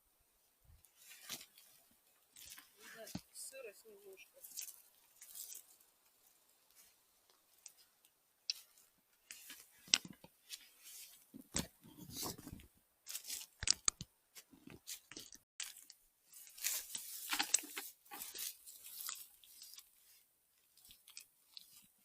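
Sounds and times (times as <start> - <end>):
crunching of forest leaves and twigs: 0.8 - 22.0
twigs crackling: 0.8 - 22.0.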